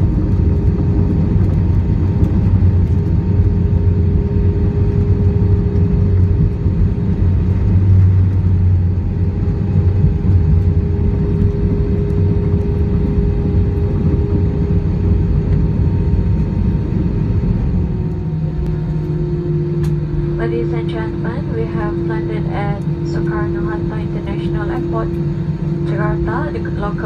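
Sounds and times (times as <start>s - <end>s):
airplane engines and wheels rumbling: 0.0s - 27.0s
constant hum: 0.0s - 27.0s.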